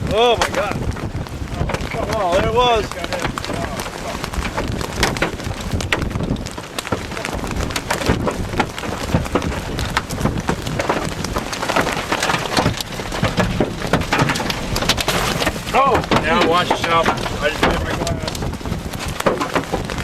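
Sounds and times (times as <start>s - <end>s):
hailstones pounding a vehicle: 0.0s - 20.0s
wind and rain roar: 0.0s - 20.0s.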